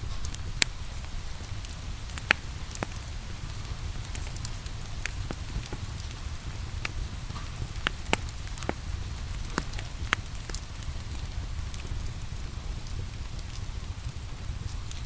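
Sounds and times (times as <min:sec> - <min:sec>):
steady rain hiss: 0:00.0 - 0:15.0
wood fire crackling and popping: 0:00.0 - 0:15.0.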